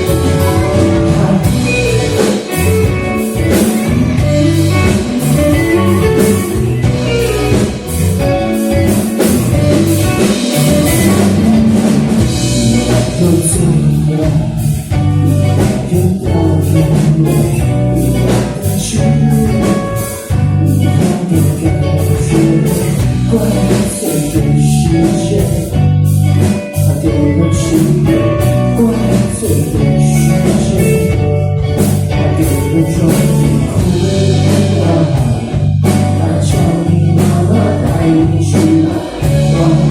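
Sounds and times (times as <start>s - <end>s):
drum kit: 0.0s - 39.9s
guitars playing: 0.0s - 39.9s
person singing: 0.0s - 39.9s.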